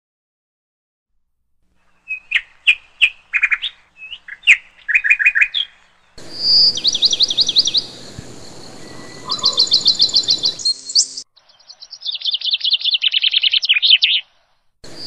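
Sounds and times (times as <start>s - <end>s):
background hiss: 1.6s - 15.0s
songbird chirping: 1.8s - 15.0s
whistled bird notes: 1.8s - 15.0s.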